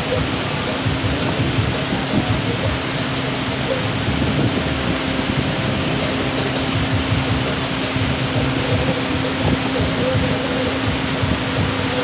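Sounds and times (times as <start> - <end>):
boat motor humming: 0.0 - 12.0
rushing air and water: 0.0 - 12.0.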